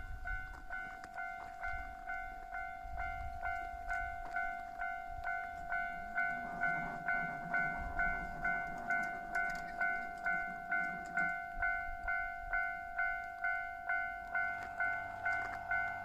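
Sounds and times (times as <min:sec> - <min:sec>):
level-crossing bell ringing: 0:00.0 - 0:16.0
train rumbling past: 0:00.0 - 0:16.0.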